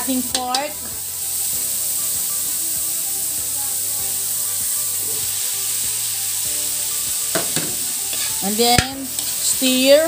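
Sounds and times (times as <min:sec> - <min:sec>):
soft music of held notes: 0:00.0 - 0:10.0
vegetables sizzling in oil: 0:00.0 - 0:10.0.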